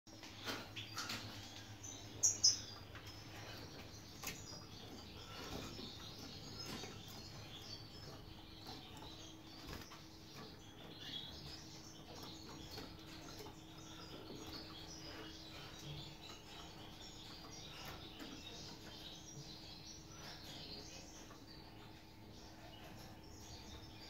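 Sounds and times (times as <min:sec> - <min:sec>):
soft twittering chirps: 0:00.1 - 0:24.0
goldfinches chirping: 0:00.5 - 0:24.0.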